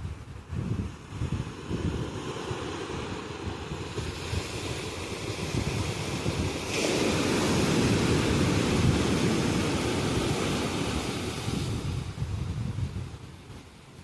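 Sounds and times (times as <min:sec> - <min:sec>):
ocean waves crashing on beach: 0:00.0 - 0:14.0.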